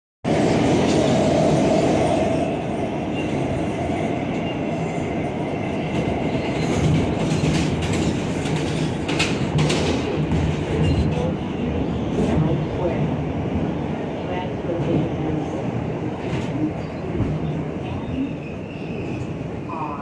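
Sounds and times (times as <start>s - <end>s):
subway wheels rumbling on track: 0.2s - 20.0s
train whine: 0.3s - 20.0s.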